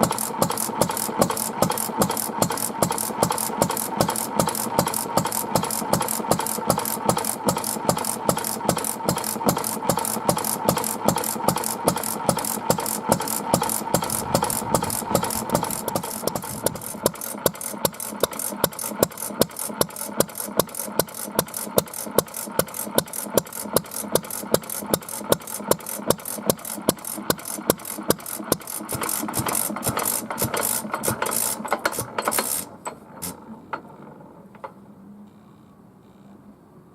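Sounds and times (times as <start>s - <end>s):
stationary engine running: 0.0s - 33.4s.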